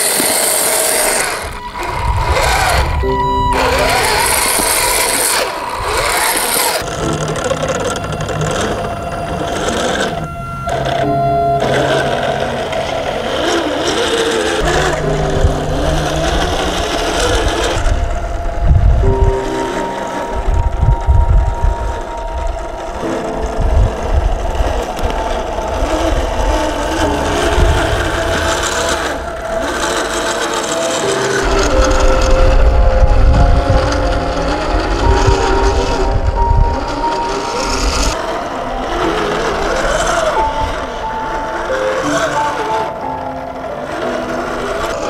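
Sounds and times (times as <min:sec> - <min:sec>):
rc truck motor revving: 0:00.0 - 0:45.0.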